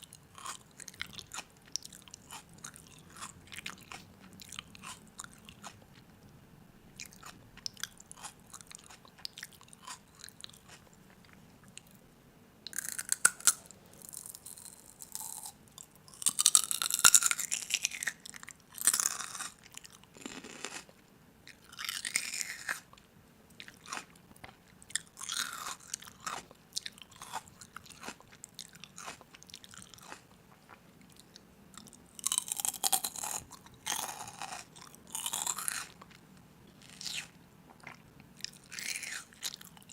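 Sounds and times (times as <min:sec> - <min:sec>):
crisp crunching of food: 0:00.0 - 0:06.1, 0:07.0 - 0:11.9, 0:12.7 - 0:20.9, 0:23.6 - 0:36.2, 0:36.8 - 0:39.9.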